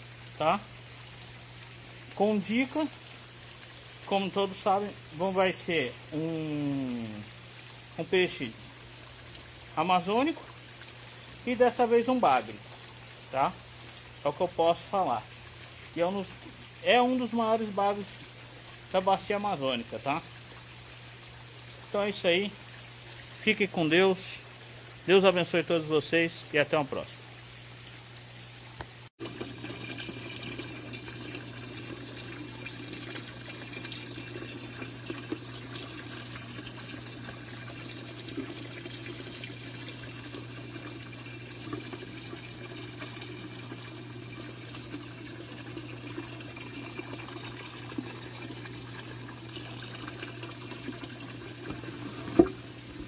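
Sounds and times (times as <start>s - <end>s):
water pouring into pond: 0.0s - 53.0s.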